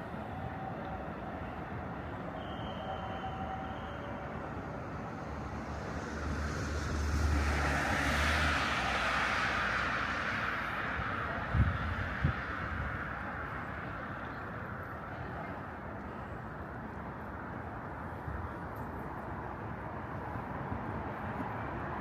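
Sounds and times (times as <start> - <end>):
city street noise: 0.0 - 22.0.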